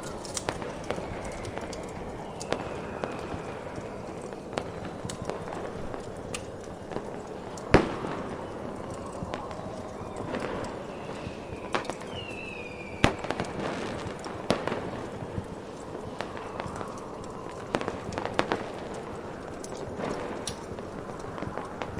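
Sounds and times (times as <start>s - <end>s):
fireworks cracks and pops: 0.0s - 21.9s
snowstorm wind: 0.0s - 21.9s.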